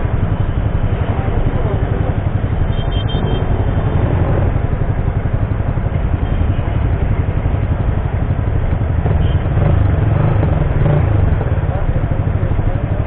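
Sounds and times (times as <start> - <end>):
scooter and motorcycles idling: 0.0 - 13.0
street traffic noise: 0.0 - 13.0.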